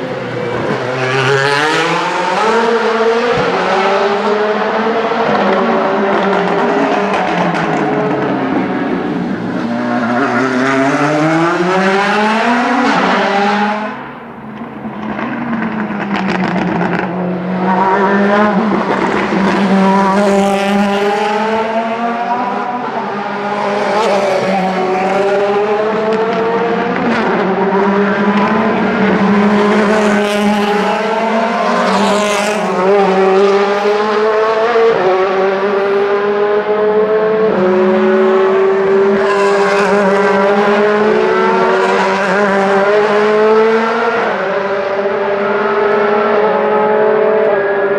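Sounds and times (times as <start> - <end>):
race car engines passing: 0.0 - 47.9.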